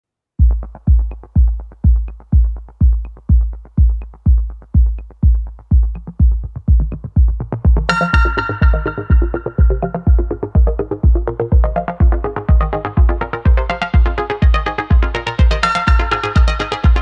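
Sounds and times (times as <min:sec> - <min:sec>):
electronic music with kick drum: 0:00.4 - 0:17.0.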